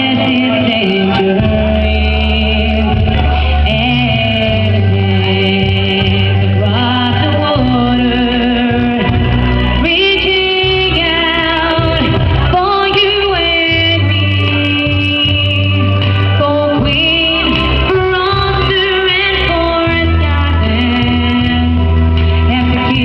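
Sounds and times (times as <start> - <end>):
backing band playing: 0.0 - 23.0
woman singing: 0.0 - 23.0.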